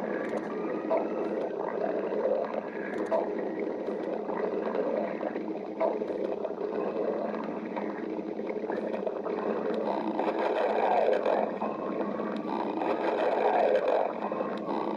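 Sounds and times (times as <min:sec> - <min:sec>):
stomach growling: 0:00.0 - 0:14.9.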